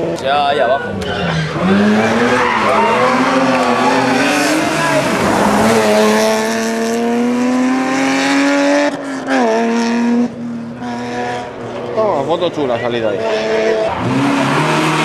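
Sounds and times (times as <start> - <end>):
car engine revving hard: 1.3 - 11.6, 13.1 - 15.0.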